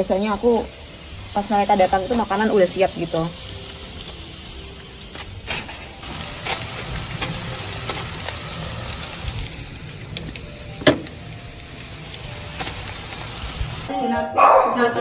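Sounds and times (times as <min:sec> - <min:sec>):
meat sizzling on grill: 0:00.0 - 0:13.9.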